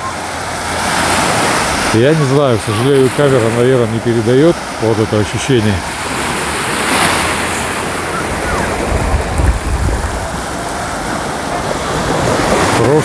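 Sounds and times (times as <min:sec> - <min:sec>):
waves washing onto beach: 0:00.0 - 0:13.0
wind buffeting microphone: 0:00.3 - 0:13.0.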